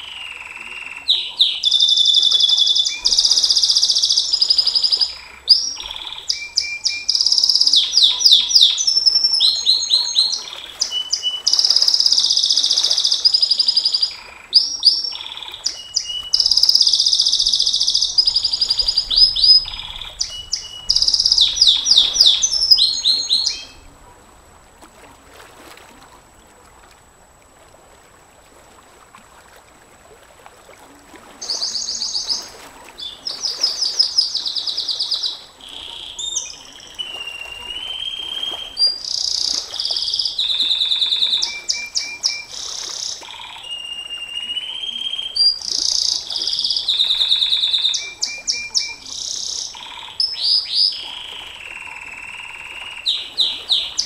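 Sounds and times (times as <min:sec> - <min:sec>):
canary singing trills: 0:00.0 - 0:23.9, 0:31.4 - 0:54.0.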